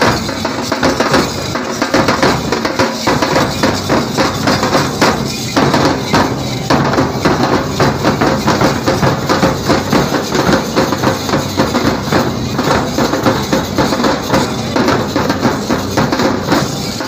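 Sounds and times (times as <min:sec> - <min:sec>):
drums beaten with sticks: 0:00.0 - 0:17.0.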